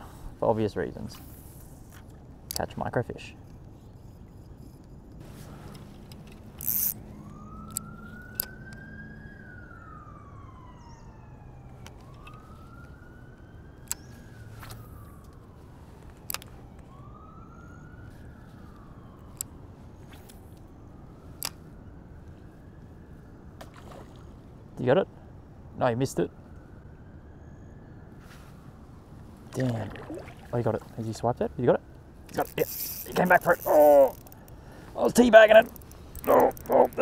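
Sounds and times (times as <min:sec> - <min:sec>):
distant siren wailing: 0:04.0 - 0:37.0.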